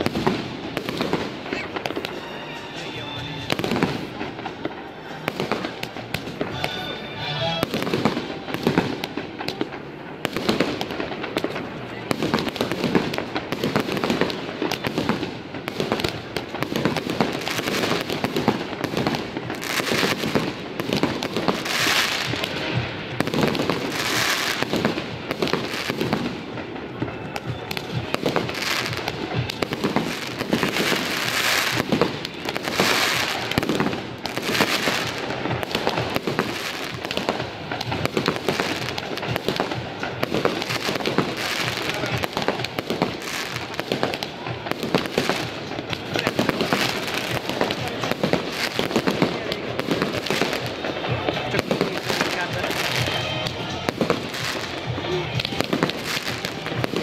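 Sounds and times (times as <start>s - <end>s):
crackling fireworks: 0.0s - 57.0s
fireworks bursting: 0.0s - 57.0s.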